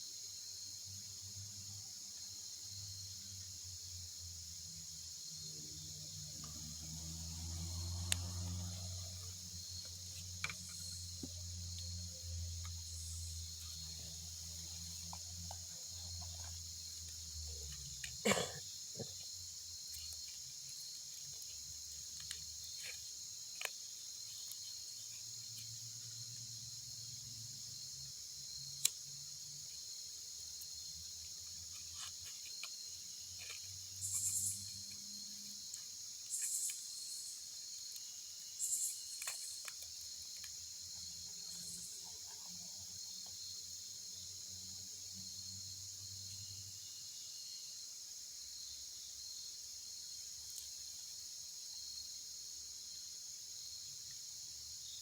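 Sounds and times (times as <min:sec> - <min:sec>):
crickets chirping chorus: 0:00.0 - 0:55.0.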